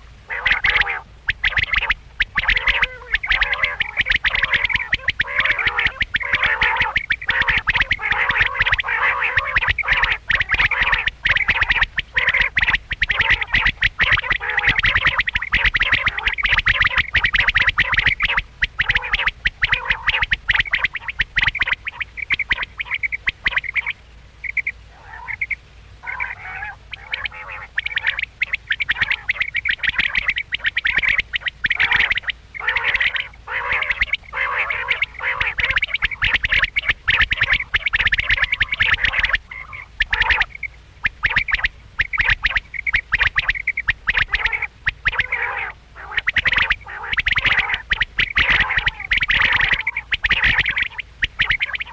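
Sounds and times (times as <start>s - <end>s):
quail calling: 0.0s - 51.9s.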